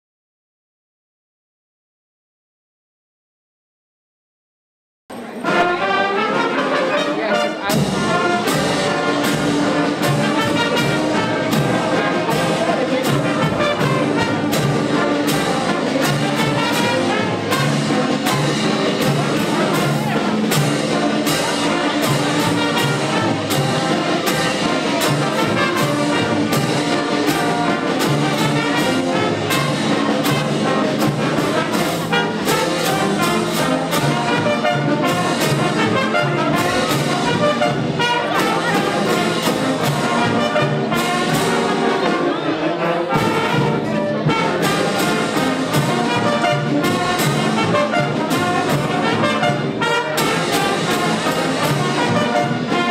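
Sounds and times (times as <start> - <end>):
concert band playing: 5.1 - 52.9.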